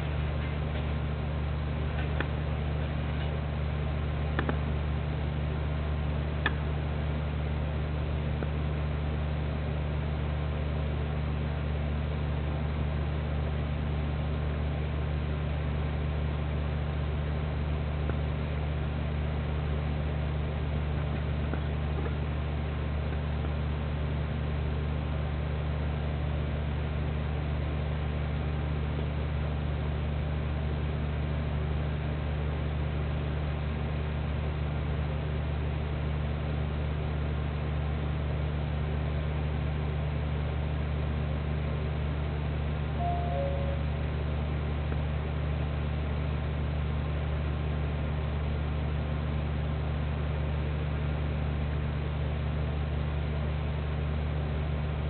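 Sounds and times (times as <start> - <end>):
steady low hum: 0.0 - 50.2.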